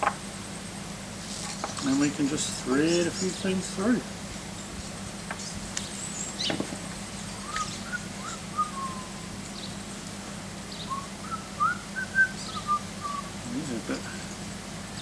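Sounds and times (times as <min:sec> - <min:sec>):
birds chirping: 0:00.0 - 0:15.0
faint steady hum: 0:00.0 - 0:15.0.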